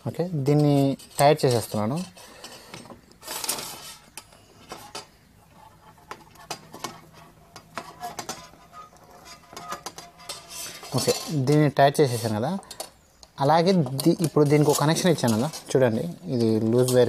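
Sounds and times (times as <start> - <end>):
metallic clicks and scrapes: 0.4 - 17.0.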